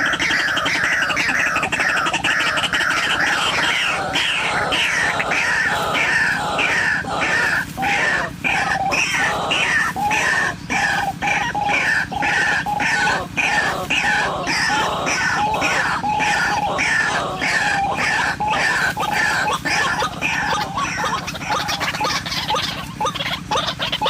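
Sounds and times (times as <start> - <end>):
bird harsh repeated calls: 0.0 - 24.0.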